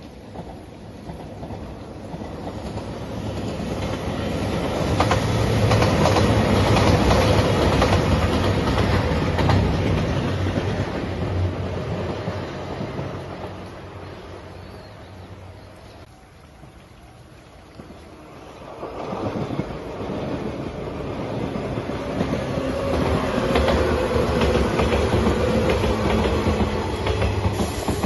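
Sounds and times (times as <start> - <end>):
wheels clicking over rail joints: 0.0 - 14.2, 18.7 - 28.0
train wheels rumbling: 0.0 - 15.8, 17.8 - 28.0
train engines humming: 0.0 - 28.0.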